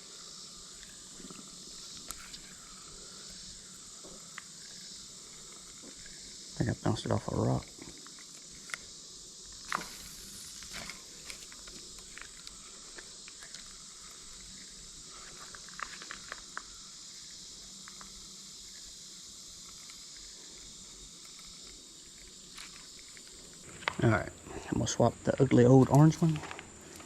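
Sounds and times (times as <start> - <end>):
insect chirring: 0.0 - 27.0
small clicks and ticks: 0.5 - 6.3, 7.4 - 24.1.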